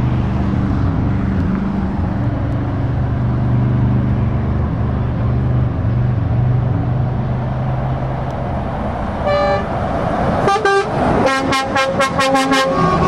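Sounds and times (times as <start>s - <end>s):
lorry diesel engines running: 0.0s - 13.0s
road noise: 0.0s - 13.0s.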